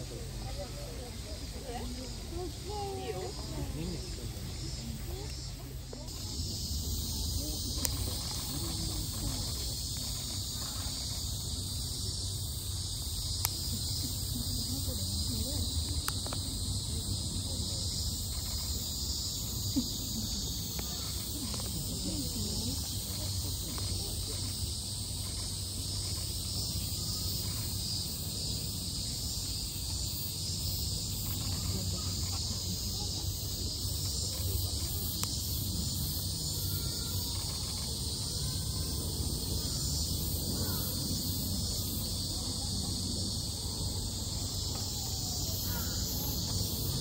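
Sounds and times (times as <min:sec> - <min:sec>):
cicadas droning: 0:00.0 - 0:47.0
faint distant voices: 0:00.0 - 0:47.0.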